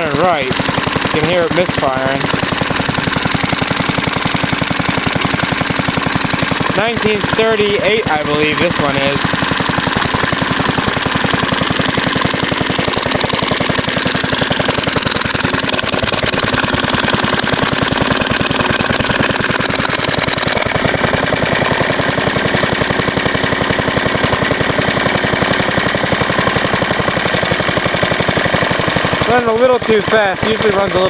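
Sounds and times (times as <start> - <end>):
single-cylinder engine running: 0.0 - 31.0.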